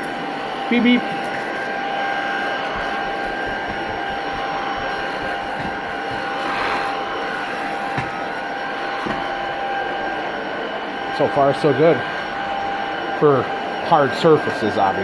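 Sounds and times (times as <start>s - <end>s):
stick vacuum running: 0.0s - 15.0s.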